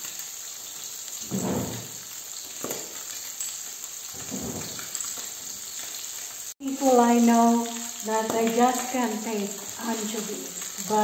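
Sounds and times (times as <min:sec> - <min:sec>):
fish and garlic sizzling in oil: 0:00.0 - 0:11.0.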